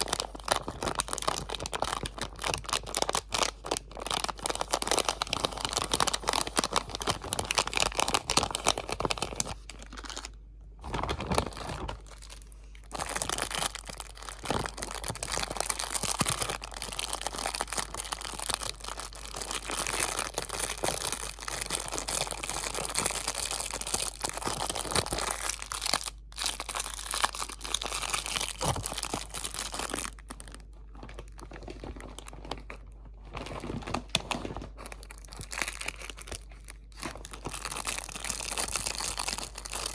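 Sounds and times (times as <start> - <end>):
crinkly material crinkling: 0.0 - 39.9.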